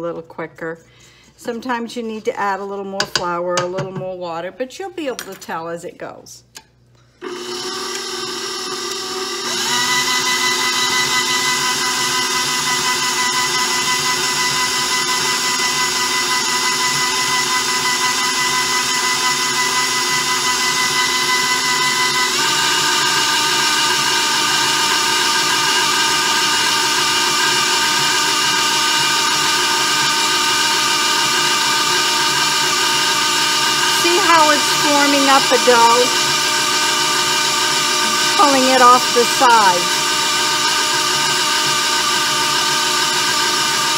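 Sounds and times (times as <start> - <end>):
stand mixer motor whining: 7.2 - 43.9.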